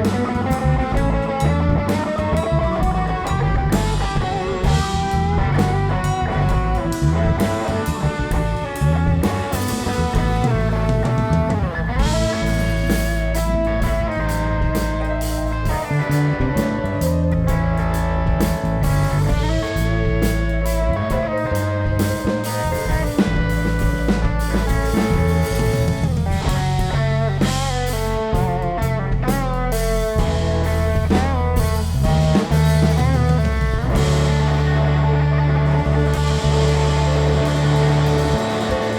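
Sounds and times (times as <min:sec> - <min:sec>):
bass and drums: 0:00.0 - 0:38.9
lead guitar line: 0:00.0 - 0:38.9
live rock band playing: 0:00.0 - 0:38.9.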